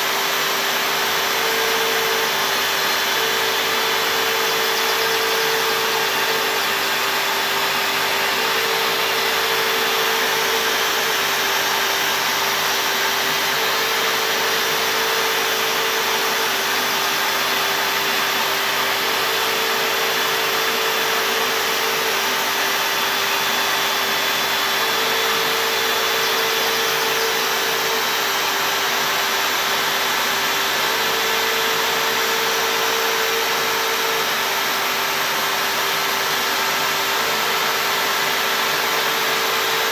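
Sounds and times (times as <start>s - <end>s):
cnc router whirring: 0.0s - 39.9s.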